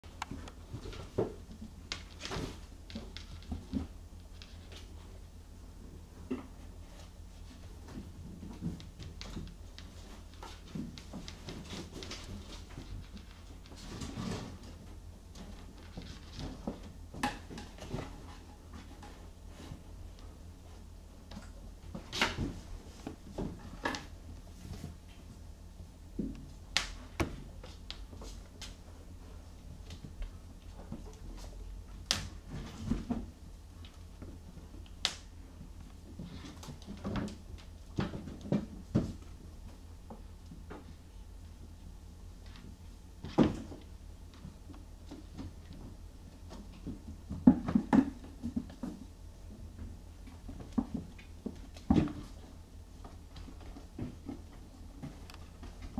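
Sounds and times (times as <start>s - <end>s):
kittens tapping and scuffing: 0.0s - 55.9s
low steady hum: 0.0s - 55.9s.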